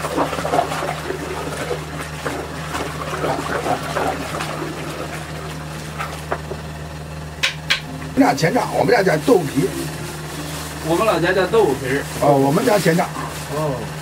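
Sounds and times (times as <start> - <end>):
liquid trickling and sloshing: 0.0 - 7.3, 8.2 - 14.0
low hum: 0.0 - 14.0.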